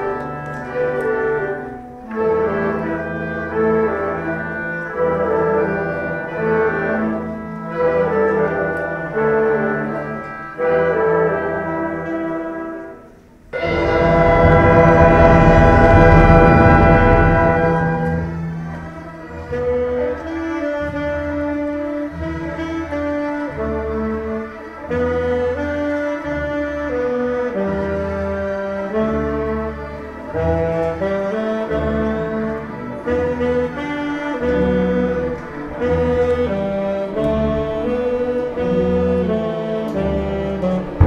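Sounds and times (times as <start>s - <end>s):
orchestra playing: 0.0s - 41.0s.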